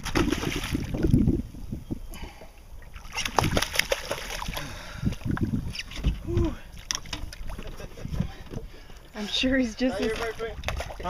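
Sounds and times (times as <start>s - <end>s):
water splashing and sloshing: 0.0s - 1.5s, 2.4s - 11.0s.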